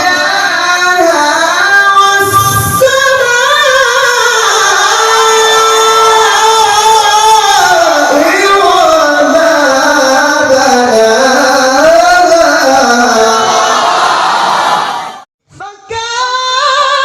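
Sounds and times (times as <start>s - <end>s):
man chanting melismatic recitation: 0.0s - 13.7s.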